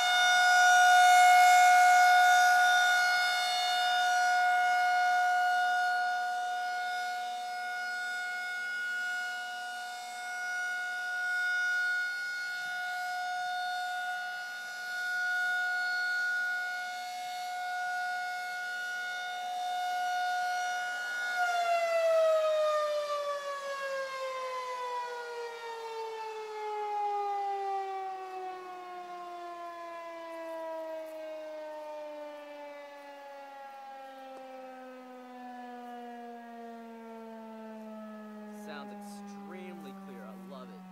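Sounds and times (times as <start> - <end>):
warning siren tone: 0.0 - 40.9.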